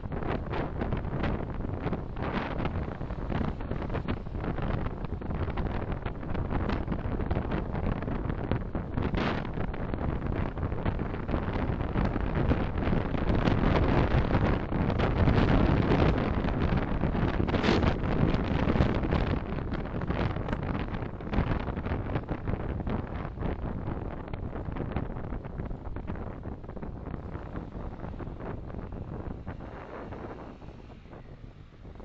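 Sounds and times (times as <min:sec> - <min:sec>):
car road and wind noise: 0:00.0 - 0:32.0.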